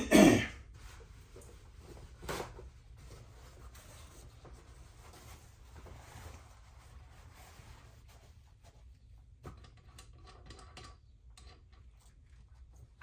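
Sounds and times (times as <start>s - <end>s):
faint rustling and handling: 0.6s - 13.0s.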